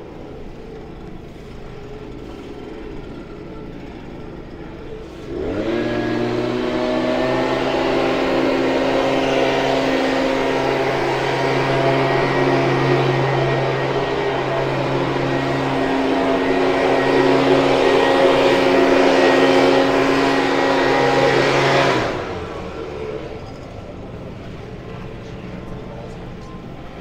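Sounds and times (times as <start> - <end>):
motor humming steadily: 0.0 - 27.0.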